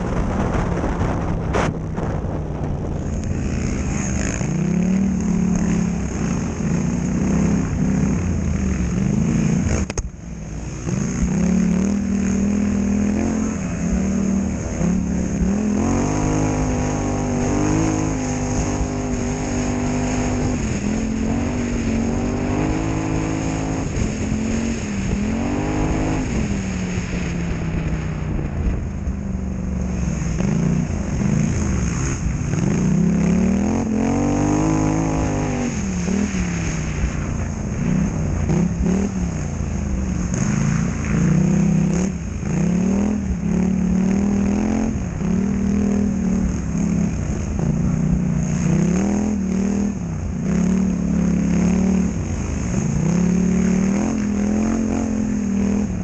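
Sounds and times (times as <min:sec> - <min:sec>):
quad engine revving: 0:00.0 - 0:28.8, 0:29.5 - 0:56.0.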